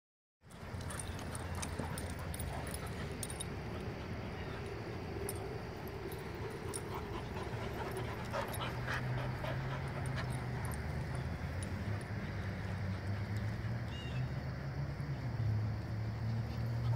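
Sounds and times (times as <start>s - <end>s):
dogs panting and vocalizing: 0.5s - 13.9s, 16.2s - 16.9s.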